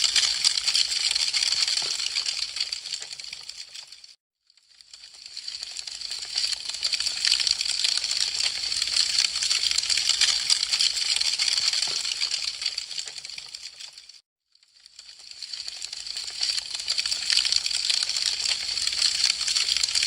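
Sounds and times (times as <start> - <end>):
wood fire crackling: 0.0 - 3.9, 5.1 - 14.1, 15.0 - 20.0.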